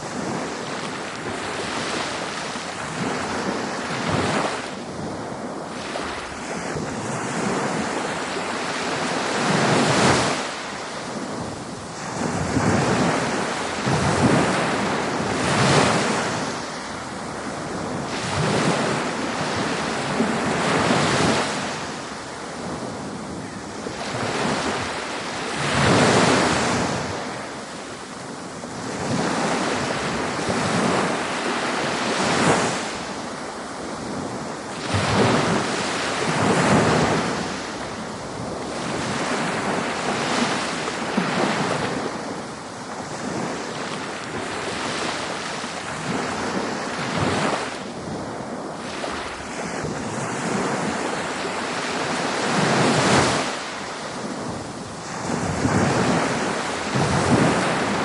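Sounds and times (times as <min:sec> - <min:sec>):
ocean waves breaking on beach: 0:00.0 - 0:58.0
wind noise on microphone: 0:00.0 - 0:58.0.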